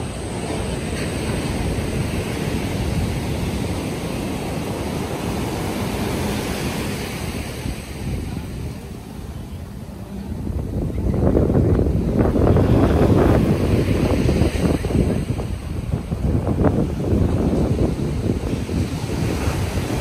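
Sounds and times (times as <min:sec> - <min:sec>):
ocean surf breaking on beach: 0:00.0 - 0:20.0
wind buffeting microphone: 0:00.0 - 0:20.0.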